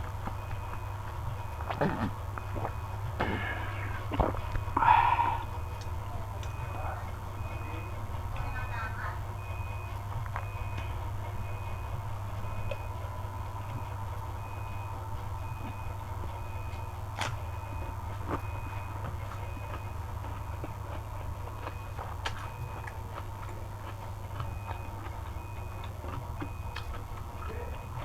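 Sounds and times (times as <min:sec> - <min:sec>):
steady low hum: 0:00.0 - 0:28.0
reversing alarm beeps: 0:00.3 - 0:28.0.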